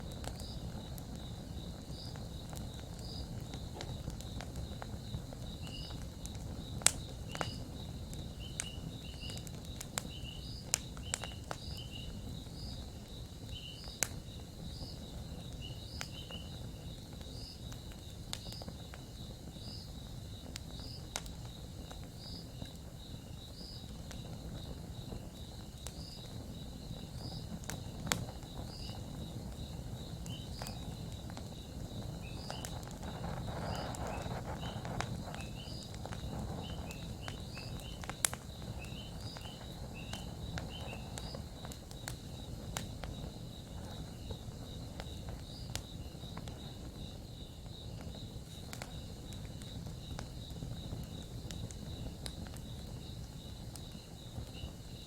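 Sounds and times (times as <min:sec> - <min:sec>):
campfire crackling and popping: 0:00.0 - 0:55.0
insects chirping: 0:00.0 - 0:55.0.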